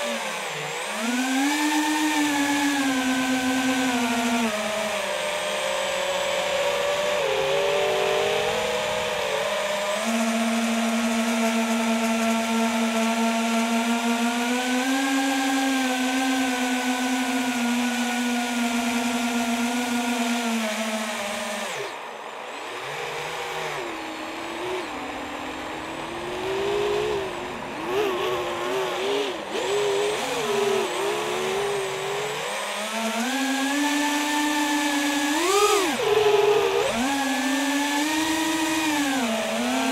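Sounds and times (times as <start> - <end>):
quadcopter propellers whining: 0.0 - 39.9.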